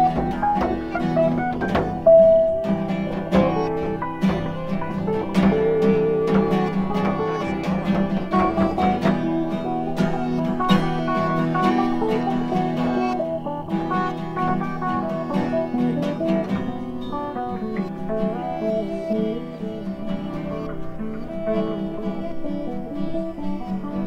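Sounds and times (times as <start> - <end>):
acoustic guitar picking and strumming: 0.0 - 24.0.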